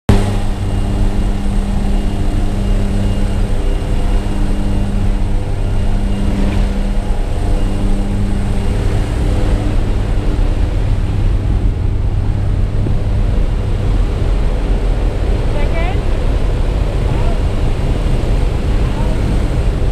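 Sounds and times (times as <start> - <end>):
propeller engine drone: 0.1 - 19.9
wind rushing and buffeting microphone: 0.1 - 19.9.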